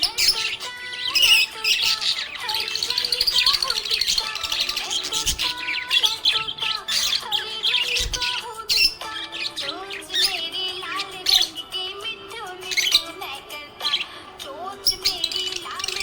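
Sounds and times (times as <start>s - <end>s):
budgerigar chirping and chattering: 0.0s - 16.0s.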